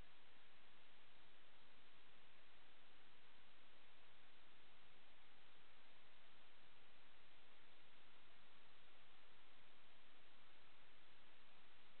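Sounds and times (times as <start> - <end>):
static hiss: 0.0 - 12.0.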